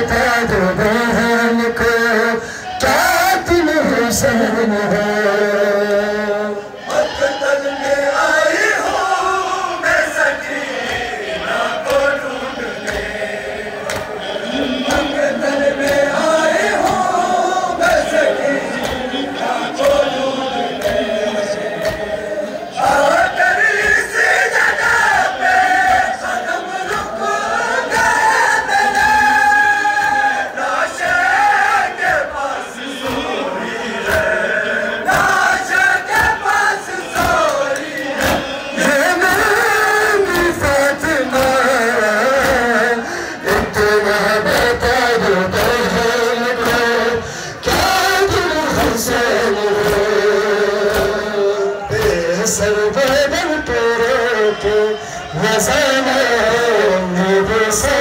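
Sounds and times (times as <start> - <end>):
male voices chanting lament: 0.0 - 58.0.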